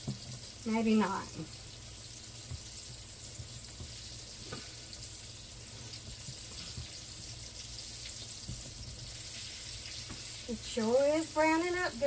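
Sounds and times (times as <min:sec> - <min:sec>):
chicken frying in hot grease: 0:00.0 - 0:12.0.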